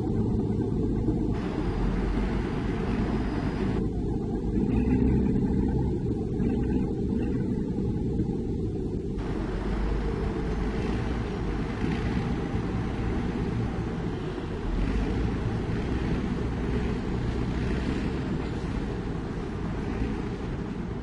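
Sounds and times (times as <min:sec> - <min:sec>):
diesel heavy machinery rumbling: 0:00.0 - 0:21.0.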